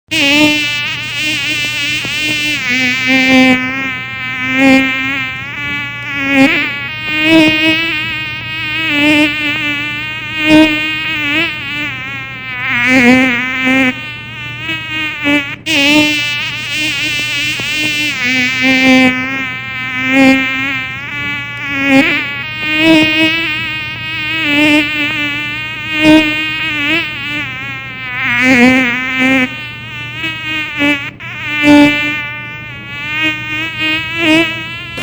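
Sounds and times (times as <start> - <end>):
mosquito buzzing: 0.1 - 35.0.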